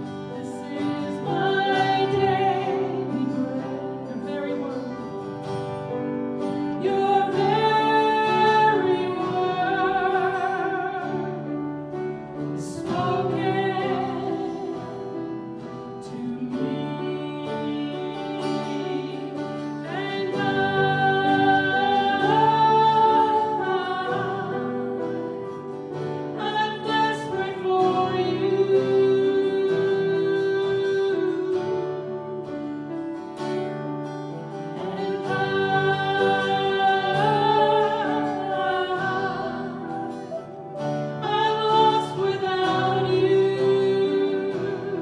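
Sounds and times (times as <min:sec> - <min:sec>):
person singing worship song: 0:00.0 - 0:45.0.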